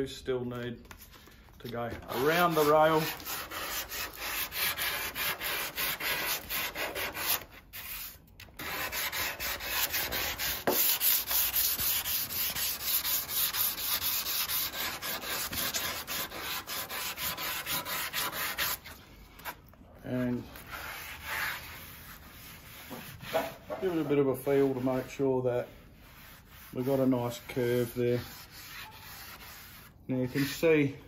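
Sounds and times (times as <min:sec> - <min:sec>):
hand sanding: 0:01.8 - 0:19.0, 0:20.2 - 0:30.9.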